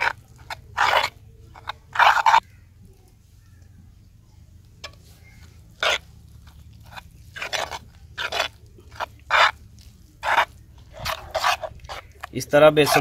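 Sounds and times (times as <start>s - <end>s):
metal spoon scraping clay bowl: 0.0s - 2.5s, 4.8s - 13.0s.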